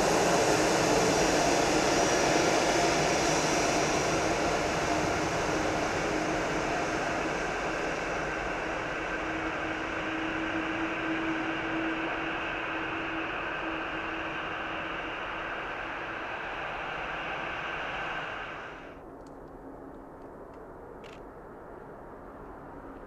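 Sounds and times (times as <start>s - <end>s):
jet engines rushing: 0.0s - 20.9s.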